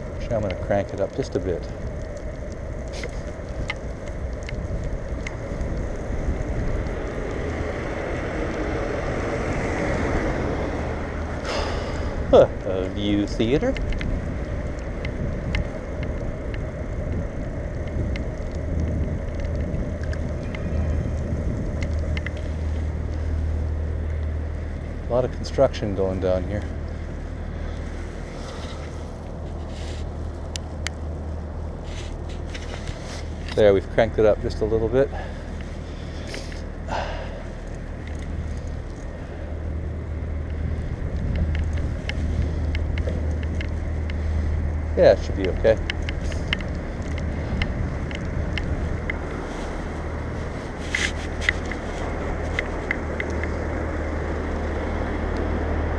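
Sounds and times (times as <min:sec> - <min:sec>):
wind on microphone: 0:00.0 - 0:25.1, 0:35.1 - 0:55.9
tyres rumbling on road: 0:00.0 - 0:55.9
small clicks and rattles: 0:00.2 - 0:09.0, 0:12.7 - 0:36.7, 0:37.4 - 0:55.5.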